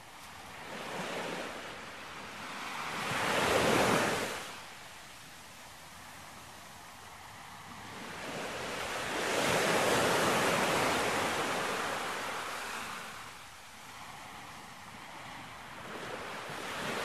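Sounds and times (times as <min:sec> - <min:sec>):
wave washing onto beach: 0:00.0 - 0:17.0.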